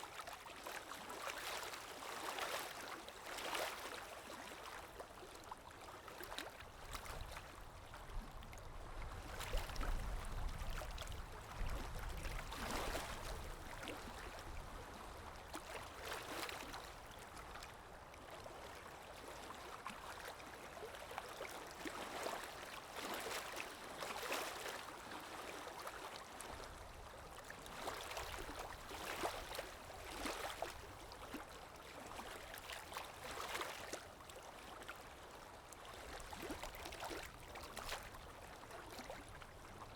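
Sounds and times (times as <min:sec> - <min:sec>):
river water lapping: 0:00.0 - 0:39.9.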